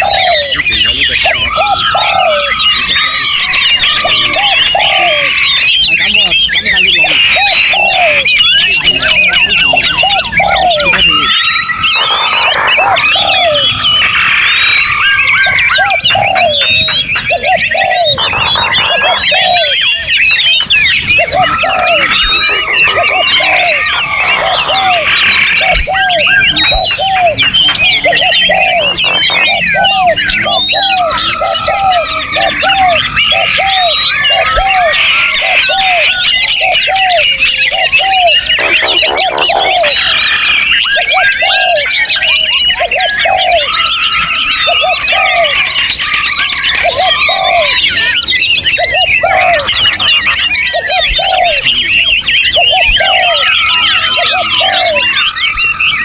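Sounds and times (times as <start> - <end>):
songbirds chorus: 0.0 - 56.0.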